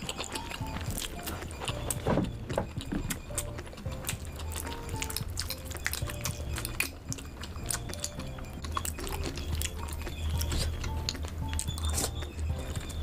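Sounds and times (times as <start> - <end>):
soft background music: 0.0 - 13.0
wet chewing sounds: 0.0 - 13.0.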